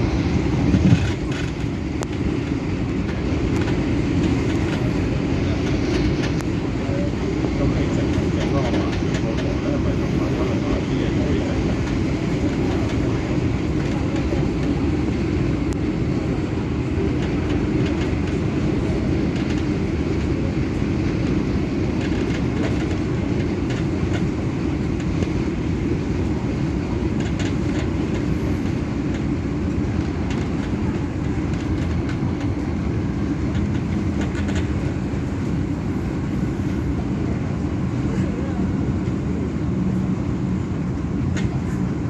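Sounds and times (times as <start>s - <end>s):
train running rumble: 0.0s - 42.0s.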